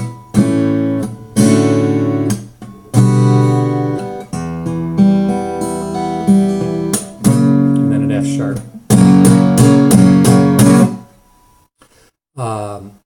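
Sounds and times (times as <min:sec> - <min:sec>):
acoustic guitar strumming chords: 0:00.0 - 0:11.6.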